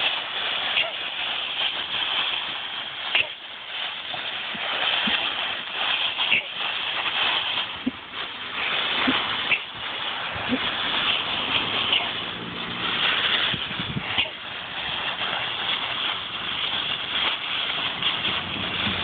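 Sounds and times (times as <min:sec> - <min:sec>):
dry leaves rustling and crunching: 0:00.0 - 0:19.0.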